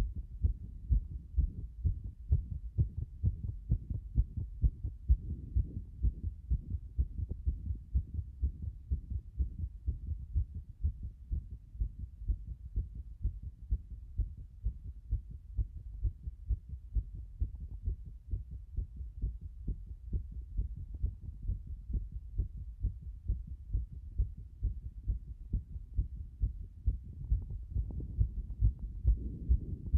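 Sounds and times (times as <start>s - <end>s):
fast heartbeat thumps: 0.0s - 29.9s.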